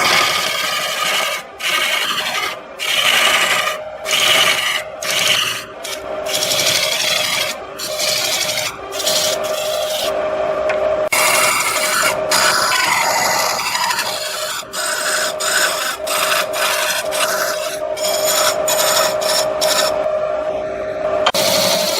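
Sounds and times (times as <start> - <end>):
wood rasping on a lathe: 0.0 - 10.2, 11.1 - 20.1, 21.3 - 21.9.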